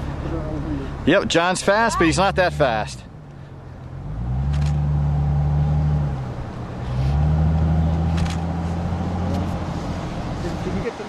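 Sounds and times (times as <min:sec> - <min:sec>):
car engine pulling away: 0:00.0 - 0:10.9.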